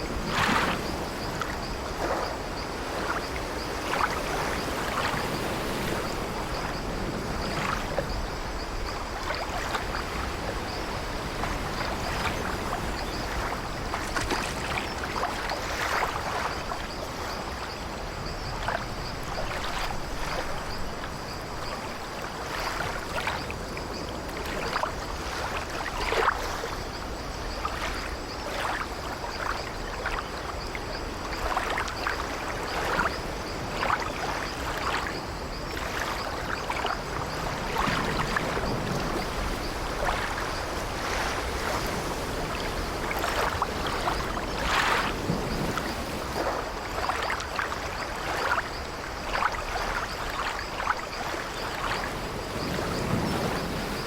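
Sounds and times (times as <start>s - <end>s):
water lapping against wooden ship: 0.0s - 54.0s.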